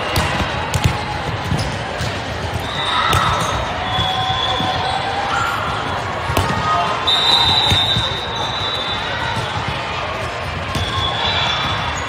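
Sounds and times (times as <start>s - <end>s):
volleyball contact: 0.0s - 8.4s, 9.2s - 12.0s
murmur of voices: 0.0s - 12.0s.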